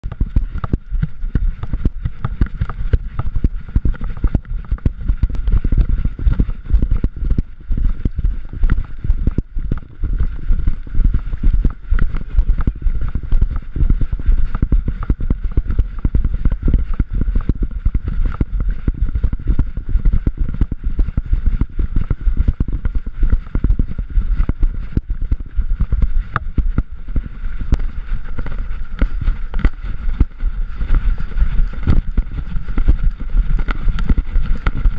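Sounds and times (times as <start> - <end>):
camera thumping and rubbing: 0.1 - 34.9.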